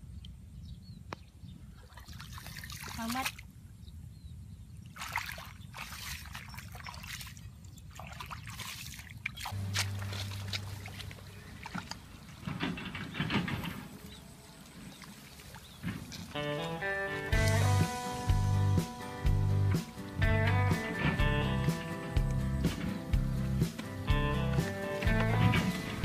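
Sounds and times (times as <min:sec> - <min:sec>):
muddy water splashing: 0:01.7 - 0:03.5, 0:04.8 - 0:26.0.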